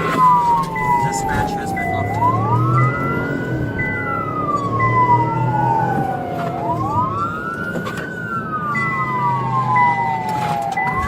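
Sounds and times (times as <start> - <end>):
police sirens wailing: 0.0 - 11.0
vehicle rumbling on road: 0.0 - 11.0.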